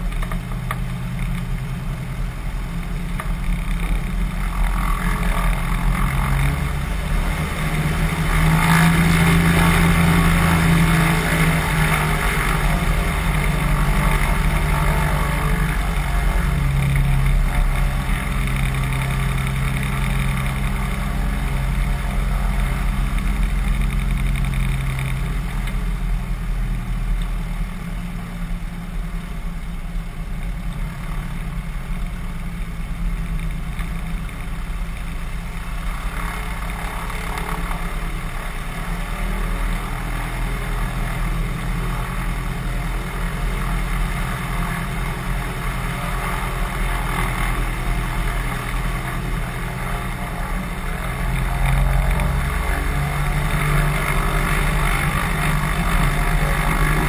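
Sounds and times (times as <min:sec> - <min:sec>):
wheels rolling: 0:00.0 - 0:26.2, 0:29.9 - 0:57.0
propeller plane engine running: 0:00.0 - 0:57.0
wind: 0:00.0 - 0:57.0.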